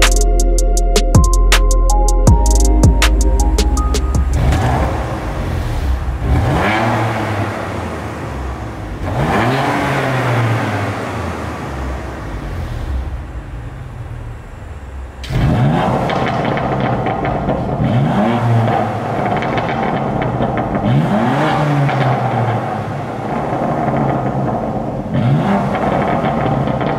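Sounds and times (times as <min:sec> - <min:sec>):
car engine revving: 0:02.7 - 0:26.9.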